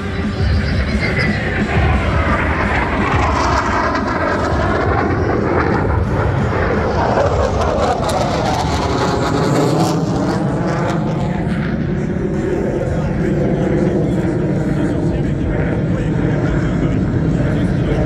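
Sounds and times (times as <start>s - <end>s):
jet roaring overhead: 0.0s - 18.0s.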